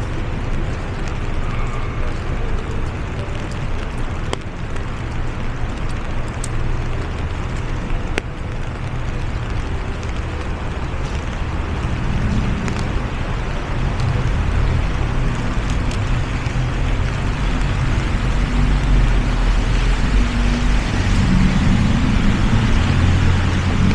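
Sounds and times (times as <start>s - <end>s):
low rumble of city traffic: 0.0s - 23.9s
rain falling on an umbrella: 0.0s - 23.9s.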